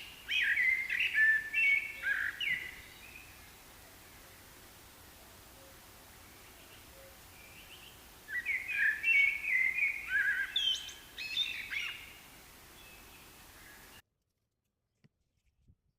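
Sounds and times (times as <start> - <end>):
small birds chirping and twittering: 0.0 - 14.0.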